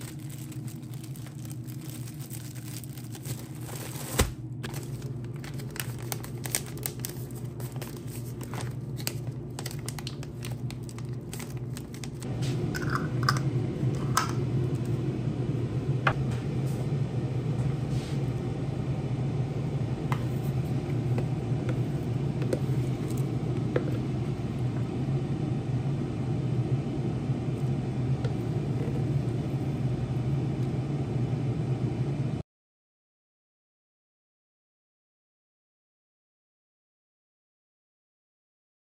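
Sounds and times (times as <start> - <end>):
kitchen appliance humming: 0.0 - 32.4.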